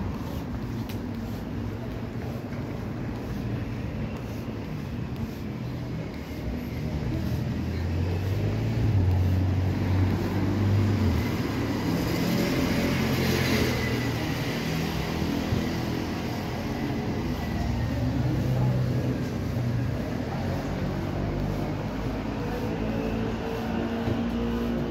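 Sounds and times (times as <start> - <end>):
heavy vehicle engine humming: 0.0 - 24.9
passing vehicle tyre noise: 0.0 - 24.9.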